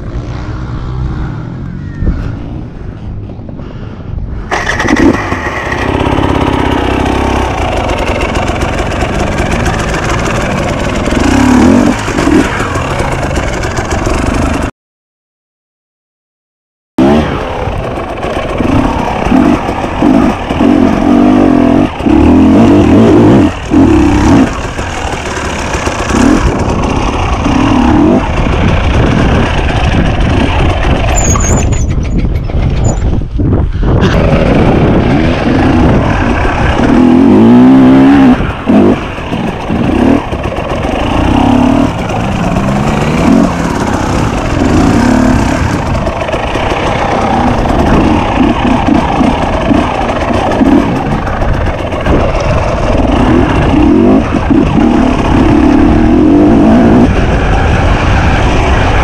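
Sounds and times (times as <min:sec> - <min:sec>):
motorcycle engine revving: 0:04.5 - 0:14.7, 0:17.0 - 0:59.0.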